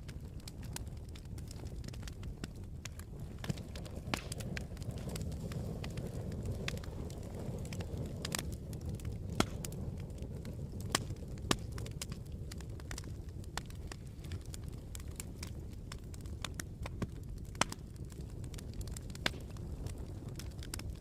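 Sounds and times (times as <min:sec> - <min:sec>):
campfire crackling: 0:00.0 - 0:21.0
fire pops and snaps: 0:00.0 - 0:21.0.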